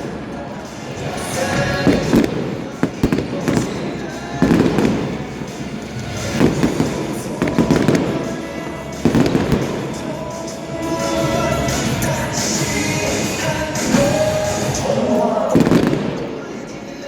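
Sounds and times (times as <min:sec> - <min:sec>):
fireworks booms and crackles: 0:00.0 - 0:17.0
music playing: 0:00.0 - 0:17.0.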